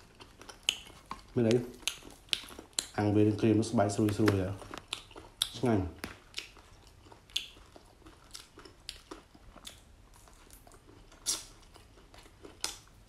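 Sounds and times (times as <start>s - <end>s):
mouth chewing crunchy food: 0.0s - 13.0s.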